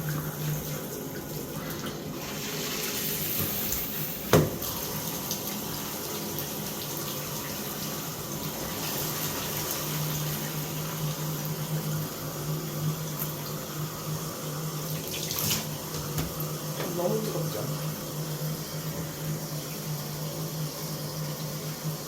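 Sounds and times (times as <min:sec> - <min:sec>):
low humming tone from shower valve: 0:00.0 - 0:22.0
shower water rushing: 0:00.0 - 0:22.0.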